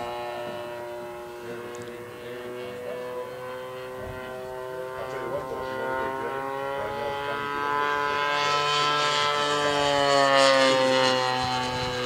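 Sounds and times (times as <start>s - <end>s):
model plane engine buzzing: 0.0s - 12.0s.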